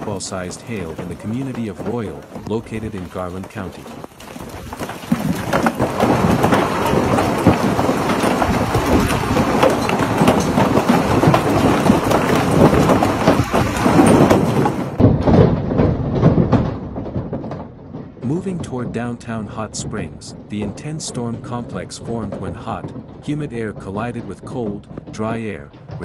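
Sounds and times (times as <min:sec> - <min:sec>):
hail pelting down: 0:00.0 - 0:26.0.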